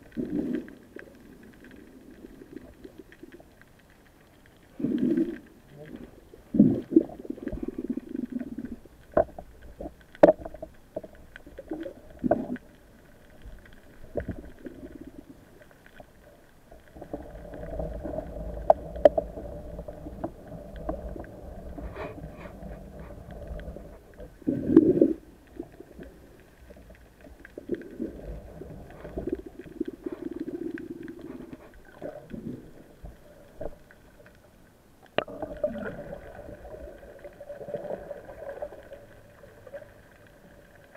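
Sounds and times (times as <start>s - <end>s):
water rushing underwater: 0.0s - 40.9s.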